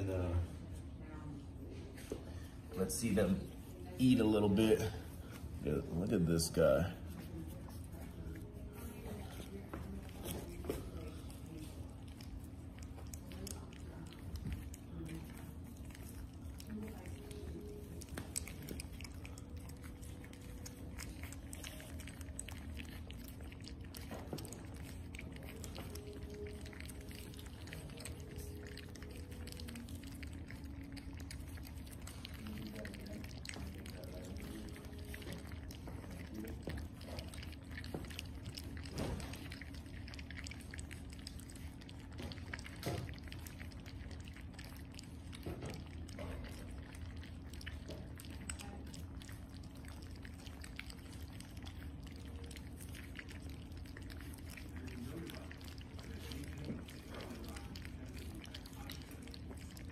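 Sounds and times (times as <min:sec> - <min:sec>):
puppies lapping and chewing: 0:00.0 - 0:59.9.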